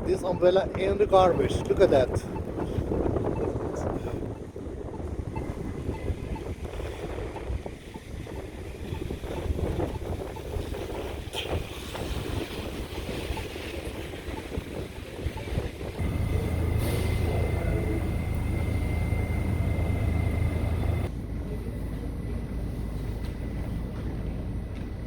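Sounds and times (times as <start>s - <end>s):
wind buffeting microphone: 0.0s - 23.1s.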